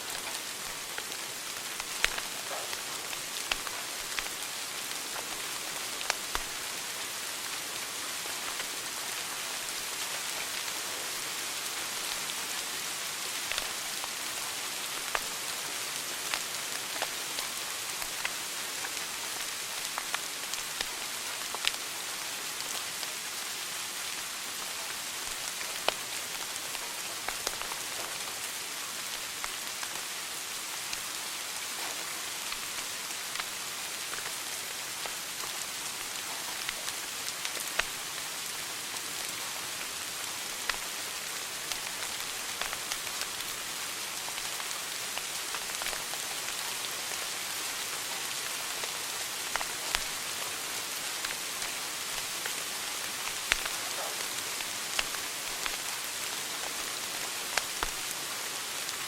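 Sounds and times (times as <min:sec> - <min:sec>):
fire crackling hiss: 0:00.0 - 0:59.0.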